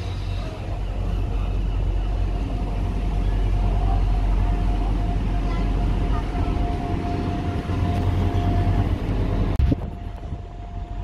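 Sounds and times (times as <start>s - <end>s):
train engine rumble: 0.0s - 11.0s.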